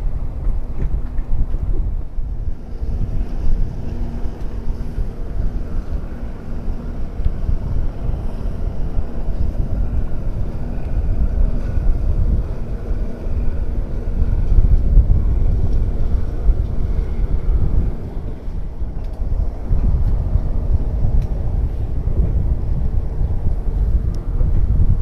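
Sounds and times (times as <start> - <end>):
outboard motor hum: 0.0 - 25.0
wind buffeting microphone: 0.0 - 25.0.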